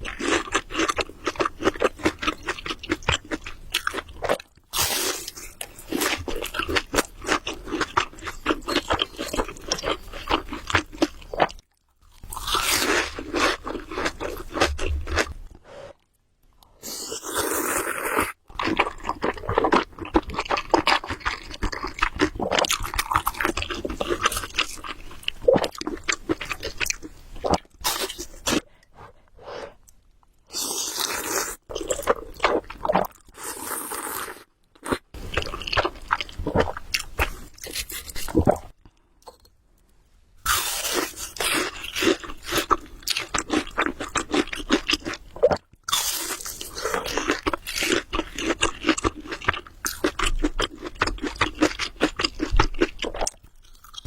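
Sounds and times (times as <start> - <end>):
wet chewing of noodles: 0.0 - 16.1, 16.7 - 38.8, 40.5 - 54.0.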